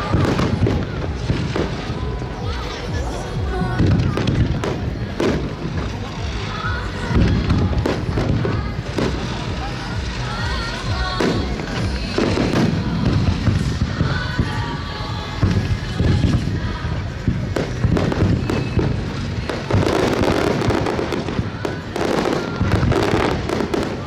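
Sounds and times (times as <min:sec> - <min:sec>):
fireworks booming: 0:00.0 - 0:24.0
fireworks cracking: 0:00.0 - 0:24.0.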